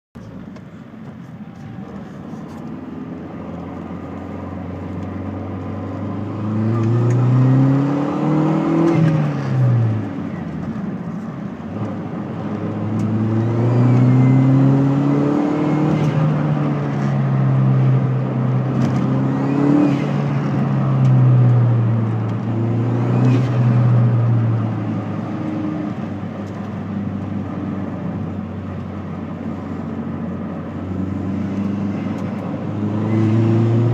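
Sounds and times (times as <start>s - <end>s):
vehicle engine revving: 2.0s - 10.6s, 11.6s - 33.9s.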